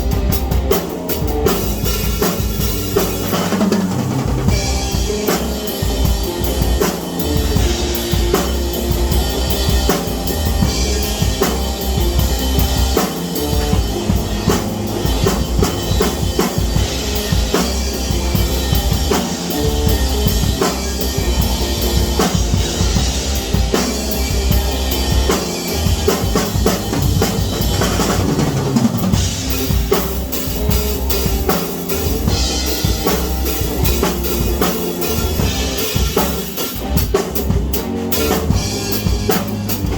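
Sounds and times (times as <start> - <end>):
drum kit: 0.0 - 39.9
heavy bass line: 0.0 - 39.9
pitched instruments: 0.0 - 39.9.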